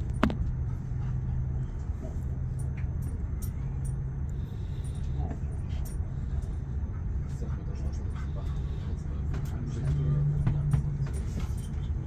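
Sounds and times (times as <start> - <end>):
low hum: 0.0 - 11.7
train rumble inside carriage: 0.0 - 12.0.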